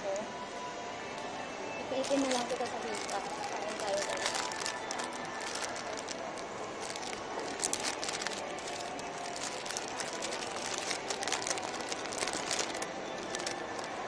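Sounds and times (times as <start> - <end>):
plastic bag crinkling: 2.0 - 14.0.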